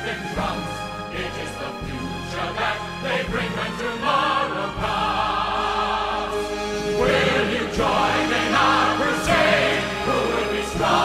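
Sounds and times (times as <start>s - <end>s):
choir singing long chords: 0.0s - 11.0s
orchestra: 0.0s - 11.0s.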